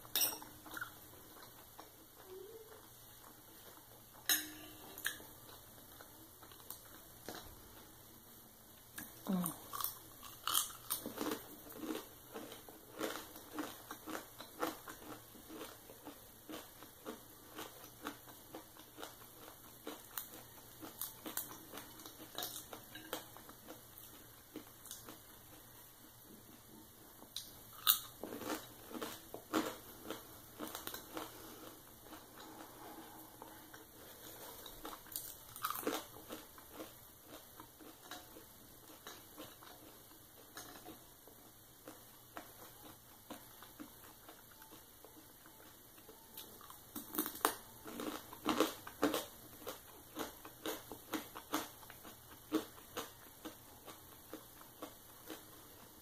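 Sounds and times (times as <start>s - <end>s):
chewing bacon: 4.8s - 7.9s, 9.0s - 56.0s.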